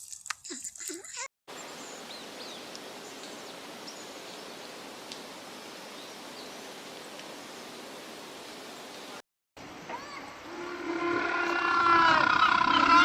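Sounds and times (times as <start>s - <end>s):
outdoor background hiss: 1.5s - 12.4s.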